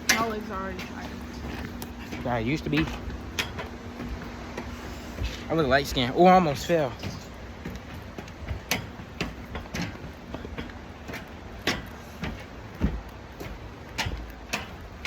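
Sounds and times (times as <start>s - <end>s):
footsteps on stairs: 0.0s - 15.0s.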